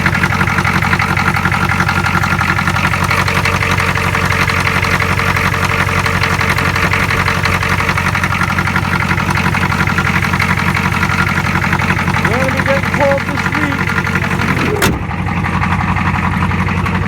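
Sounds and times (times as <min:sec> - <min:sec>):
diesel engine idling clatter: 0:00.0 - 0:17.0.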